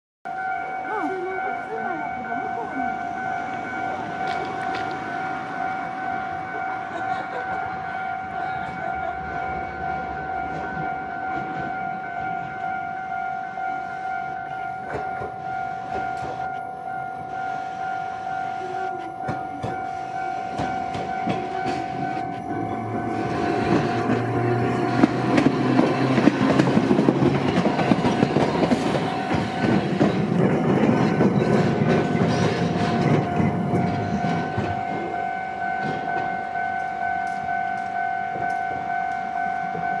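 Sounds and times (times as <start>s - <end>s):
level crossing warning bell: 0.3s - 40.0s
streetcar wheels rumbling over rails: 0.3s - 40.0s.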